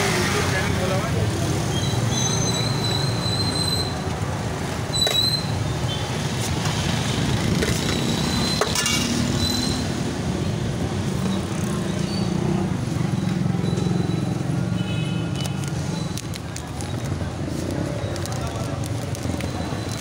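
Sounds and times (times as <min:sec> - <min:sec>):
low rumble of engines: 0:00.0 - 0:20.0.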